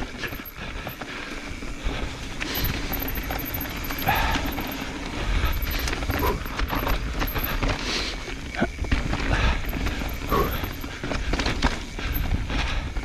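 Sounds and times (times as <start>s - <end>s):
bike rattling and clicking: 0.0s - 13.0s
bike tyres rolling over dirt: 0.0s - 13.0s.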